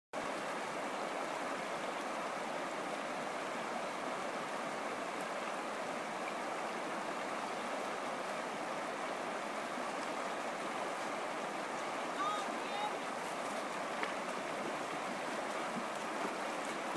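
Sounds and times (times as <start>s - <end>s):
stream rushing over rocks: 0.2s - 16.9s.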